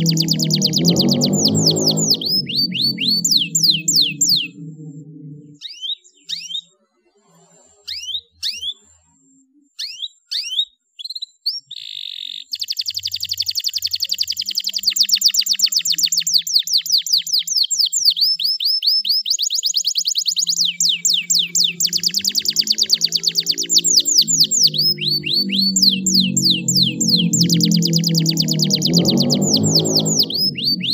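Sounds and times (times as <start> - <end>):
canary chirping and trilling: 0.0 - 6.8, 7.4 - 8.9, 9.7 - 30.9.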